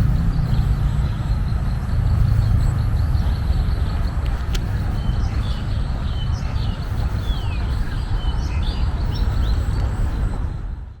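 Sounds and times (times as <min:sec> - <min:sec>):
birds chirping: 0:00.0 - 0:10.6
steady low rumble: 0:00.0 - 0:11.0.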